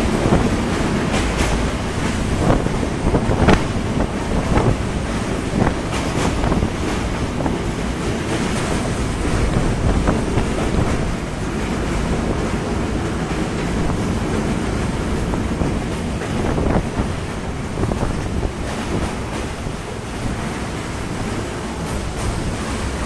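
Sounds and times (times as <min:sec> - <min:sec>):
moving train rumble: 0:00.0 - 0:23.0
wind on microphone: 0:00.0 - 0:23.0.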